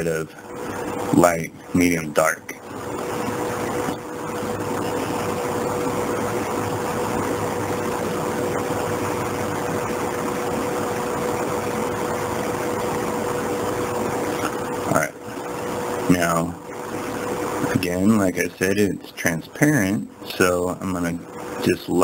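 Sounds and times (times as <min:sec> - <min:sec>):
constant mid-pitched tone: 0:00.0 - 0:22.0
mechanical hum and hiss: 0:00.0 - 0:22.0.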